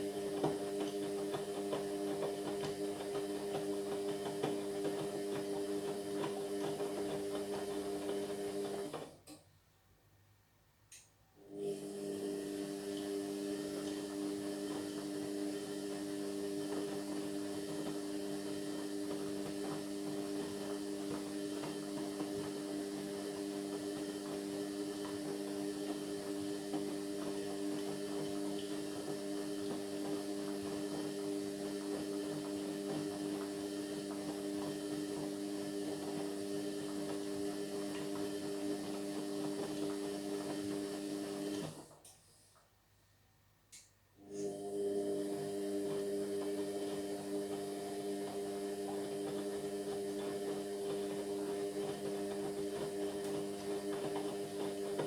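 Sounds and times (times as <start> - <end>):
washing machine humming: 0.0 - 9.3, 11.4 - 42.4, 44.2 - 55.0.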